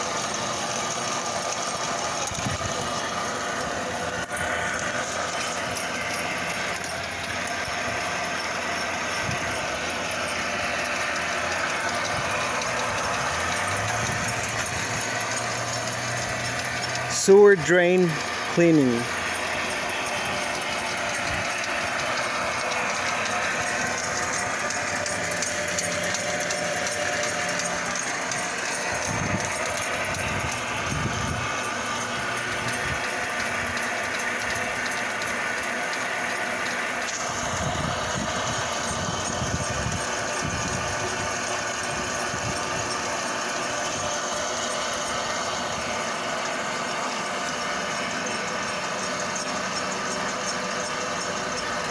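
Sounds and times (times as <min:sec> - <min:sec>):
drain cleaning machine whirring: 0:00.0 - 0:51.9
mechanical clatter: 0:00.0 - 0:51.9.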